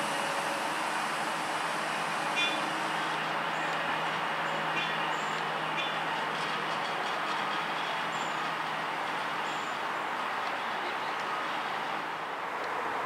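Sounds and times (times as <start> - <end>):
miniature train wheels on rails: 0.0 - 11.8.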